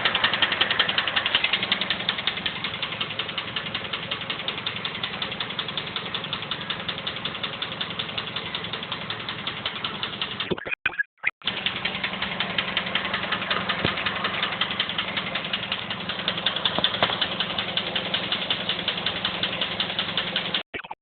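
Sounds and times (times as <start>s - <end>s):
car engine idling: 0.0s - 10.5s, 11.4s - 20.6s
rapid even engine clicking: 0.0s - 10.6s, 11.4s - 21.0s.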